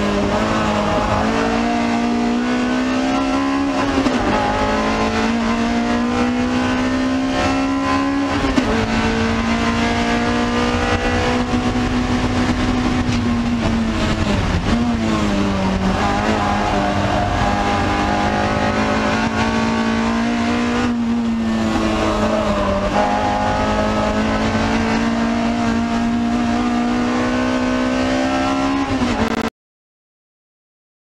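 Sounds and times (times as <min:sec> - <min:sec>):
car engine revving high: 0:00.0 - 0:29.5.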